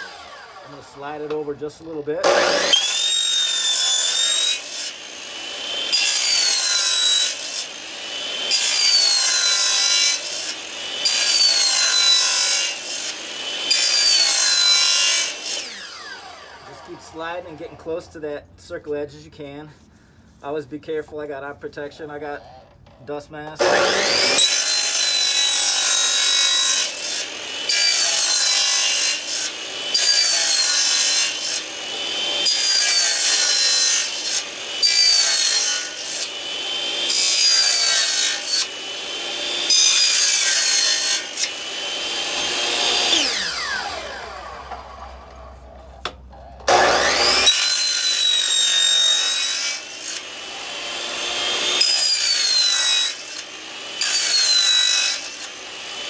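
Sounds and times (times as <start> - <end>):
chop saw cutting floorboard: 0.0 - 17.8, 23.6 - 56.0.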